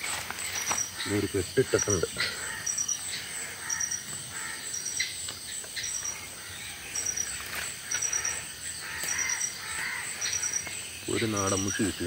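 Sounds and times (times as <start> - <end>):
bird calls: 0.0 - 12.0
insects chirping in trills: 0.0 - 12.0.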